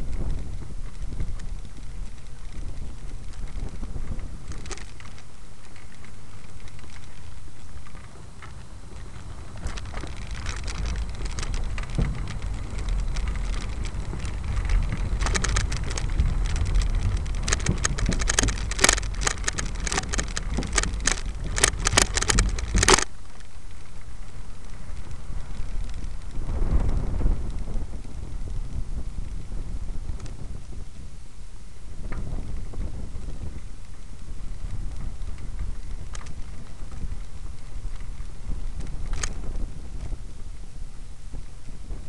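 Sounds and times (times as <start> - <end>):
sharp clicking and rattling: 0.0 - 29.4, 32.0 - 40.2
wind buffeting microphone: 0.0 - 42.0.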